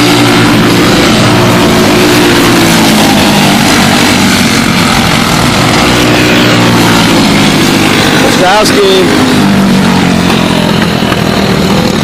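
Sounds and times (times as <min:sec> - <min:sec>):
racing kart engines buzzing: 0:00.0 - 0:12.0.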